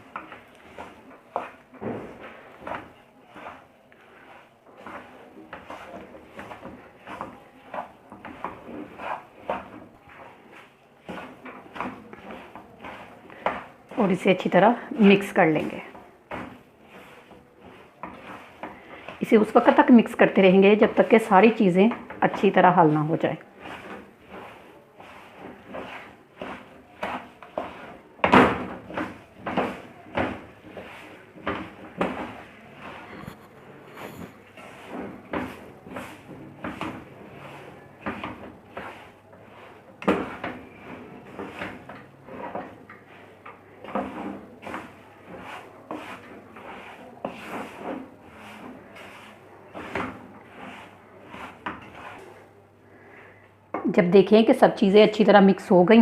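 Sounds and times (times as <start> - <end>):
utensil scraping thick mixture in pan: 0.0 - 53.4.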